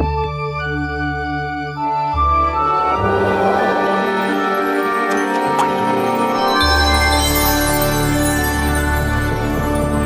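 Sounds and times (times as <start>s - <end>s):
music with held chords: 0.0s - 10.0s.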